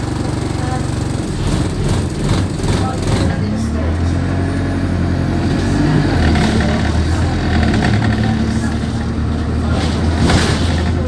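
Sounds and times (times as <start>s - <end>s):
bus diesel engine droning: 0.0s - 11.0s.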